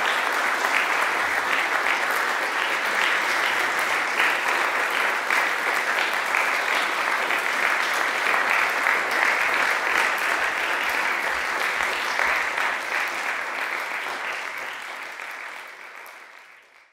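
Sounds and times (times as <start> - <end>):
audience applause: 0.0 - 16.9.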